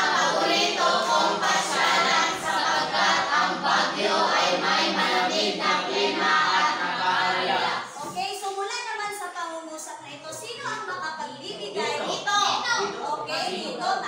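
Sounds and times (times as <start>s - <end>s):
students speaking in unison: 0.0s - 8.3s, 10.3s - 14.0s.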